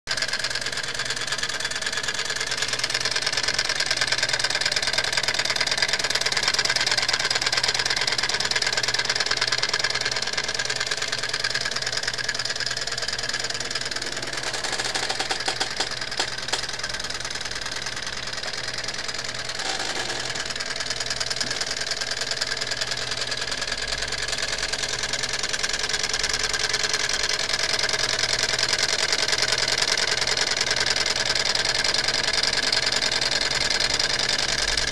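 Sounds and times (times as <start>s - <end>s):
small engine mechanical clatter: 0.1s - 34.9s.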